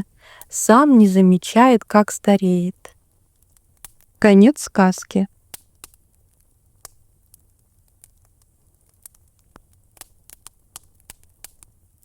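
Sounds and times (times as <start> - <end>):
fireplace crackling: 0.0 - 12.0.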